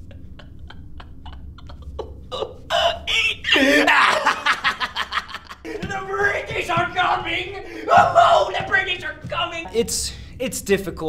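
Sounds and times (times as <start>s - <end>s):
man laughing wildly: 0.0s - 9.3s.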